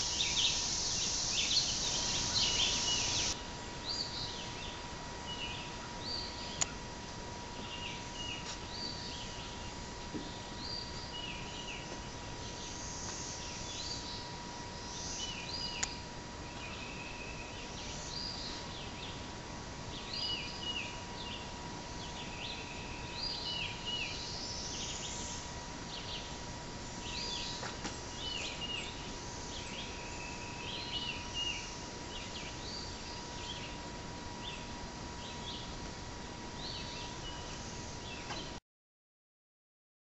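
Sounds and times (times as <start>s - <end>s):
songbird singing chirpy phrases: 0.0s - 6.8s, 7.5s - 19.3s, 19.9s - 33.8s, 36.6s - 38.6s
outdoor background hiss: 0.0s - 38.6s.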